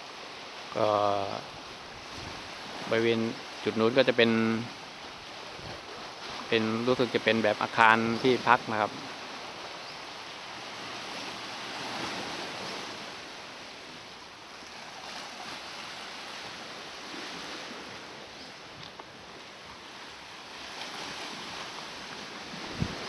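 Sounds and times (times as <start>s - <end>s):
small waves washing ashore: 0.0s - 23.0s
wind: 0.0s - 23.0s.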